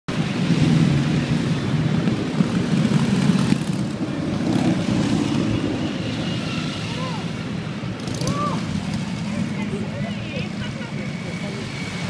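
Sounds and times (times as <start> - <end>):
motorcycles riding past: 0.2 - 12.0.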